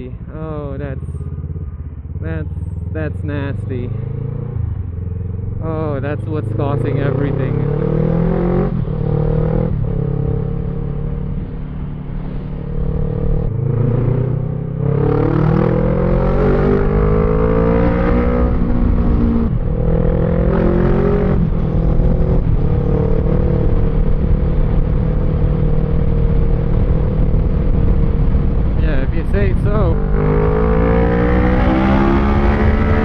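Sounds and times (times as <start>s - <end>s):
motorcycle engine accelerating: 0.0s - 33.0s
wind and road noise: 0.0s - 33.0s.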